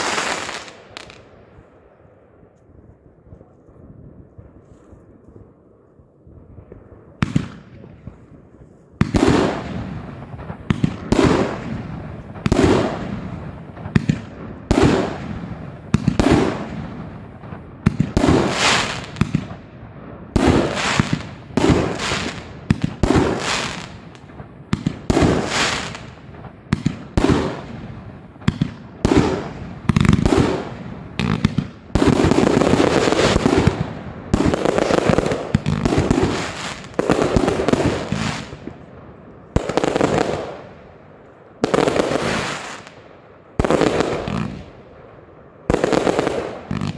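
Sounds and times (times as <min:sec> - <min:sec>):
fireworks bangs: 0:00.0 - 0:01.7, 0:06.6 - 0:46.9
fireworks crackling: 0:00.0 - 0:01.7, 0:06.7 - 0:46.9.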